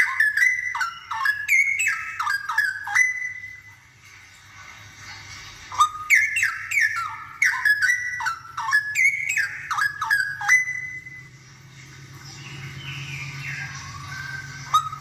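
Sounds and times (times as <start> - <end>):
bird singing whistled notes: 0.0 - 3.8, 5.7 - 11.4, 12.4 - 15.0.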